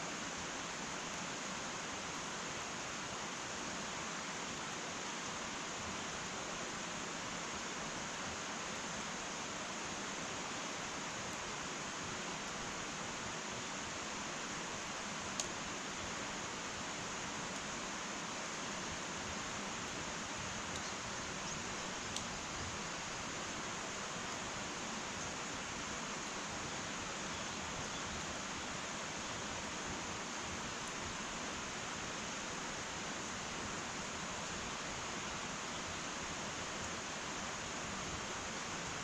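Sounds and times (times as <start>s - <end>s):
wood fire hissing: 0.0s - 39.0s.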